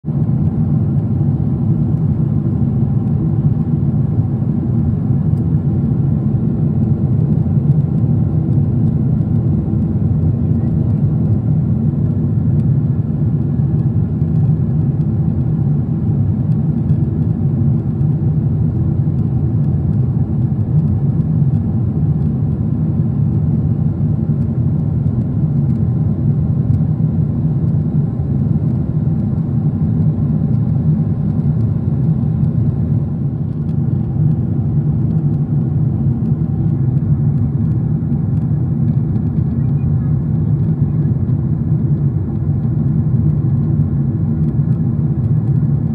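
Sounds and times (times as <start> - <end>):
faint steady hum: 0.1 - 45.9
jet cabin engine rumble: 0.1 - 45.9.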